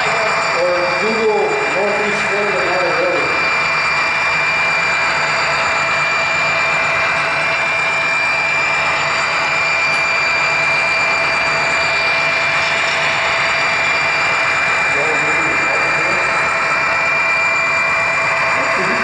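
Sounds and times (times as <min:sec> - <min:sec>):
model train rolling and whining: 0:00.0 - 0:19.0.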